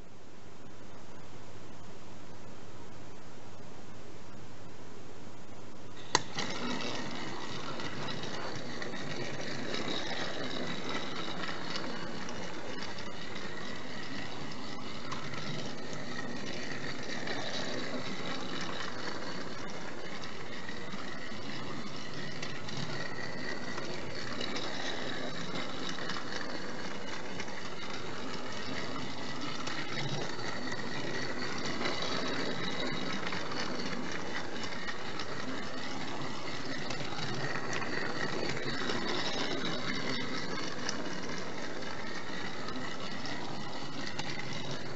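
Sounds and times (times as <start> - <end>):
toy train motor whining buzz: 6.0 - 44.9
wheels rolling on plastic rails: 6.0 - 44.9.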